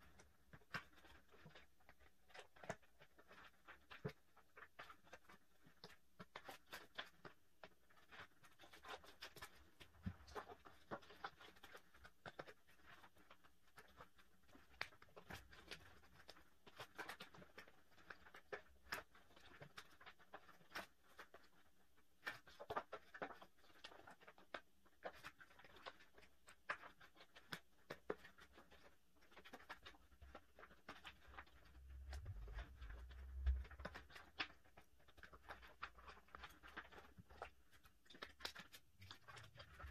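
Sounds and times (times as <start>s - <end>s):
plastic sleeves crinkling: 0.0s - 39.9s.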